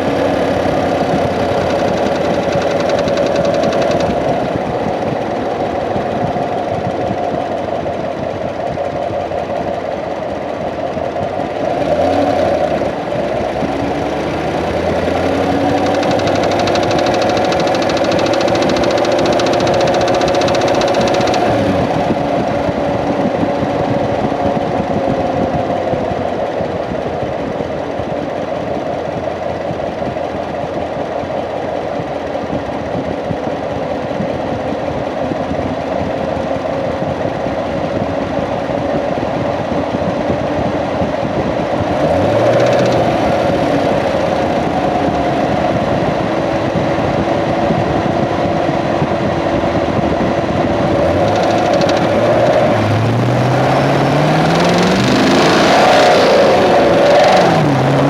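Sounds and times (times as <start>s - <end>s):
car engine idling: 0.0s - 31.6s, 40.8s - 48.5s, 49.5s - 58.0s.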